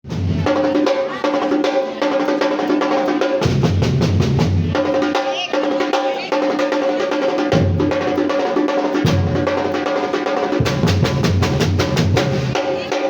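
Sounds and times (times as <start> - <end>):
samba percussion ensemble: 0.0 - 13.0.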